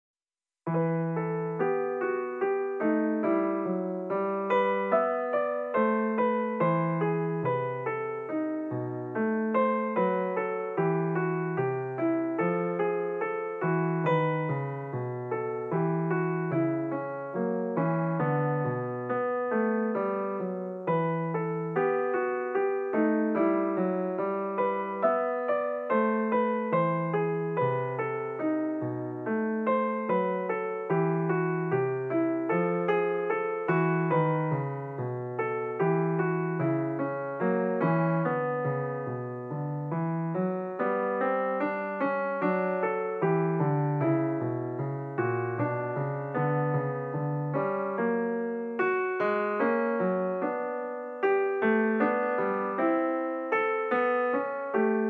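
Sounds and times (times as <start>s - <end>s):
gentle piano melody: 0.7s - 55.0s.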